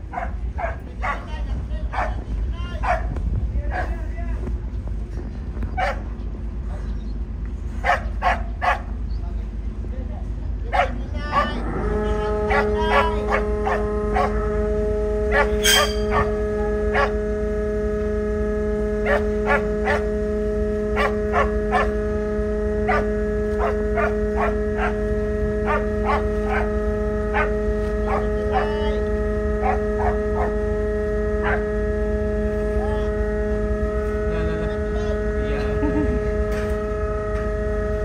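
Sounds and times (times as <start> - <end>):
ferry engines humming: 0.0 - 38.0.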